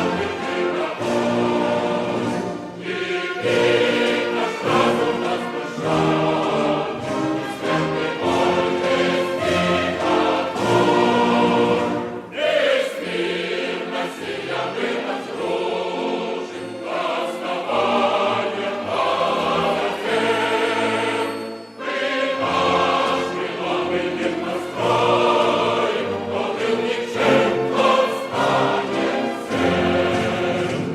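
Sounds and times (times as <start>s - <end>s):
choir singing held notes: 0.0s - 30.9s.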